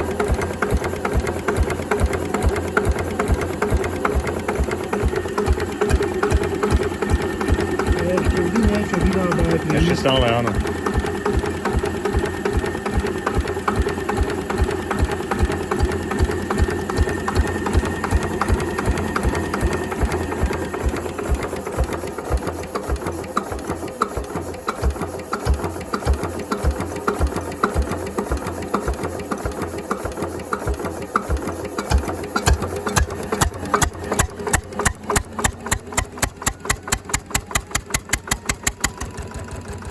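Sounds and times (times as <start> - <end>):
diesel engine running slowly: 0.0 - 39.9.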